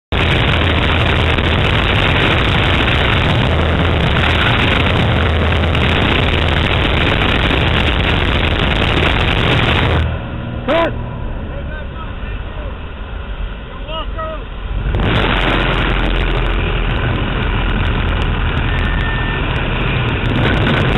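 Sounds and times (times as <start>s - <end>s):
plane engine drone: 0.1s - 20.9s
wind roaring past aircraft door: 0.1s - 20.9s.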